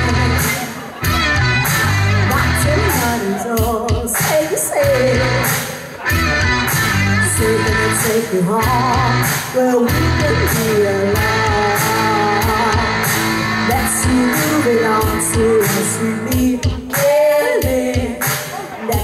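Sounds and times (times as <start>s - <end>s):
woman singing into microphone: 0.0s - 1.0s, 2.2s - 5.9s, 7.2s - 19.0s
backing music: 0.0s - 19.0s.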